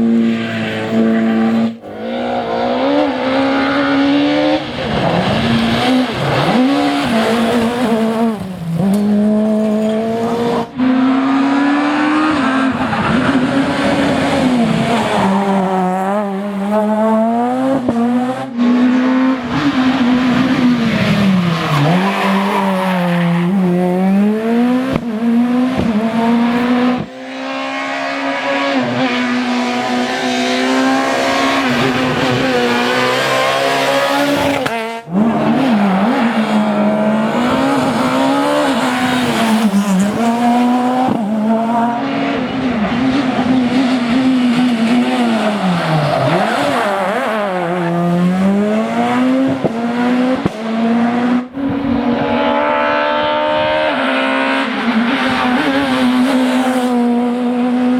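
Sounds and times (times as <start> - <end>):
rally car engines revving high: 0.0 - 57.9.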